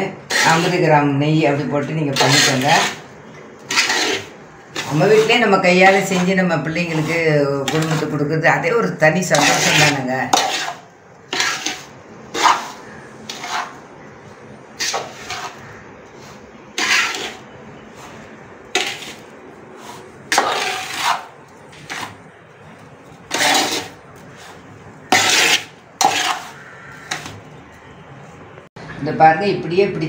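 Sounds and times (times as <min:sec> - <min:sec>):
metal spatula scraping a pot: 0:00.1 - 0:00.9, 0:01.8 - 0:13.8, 0:14.8 - 0:27.4.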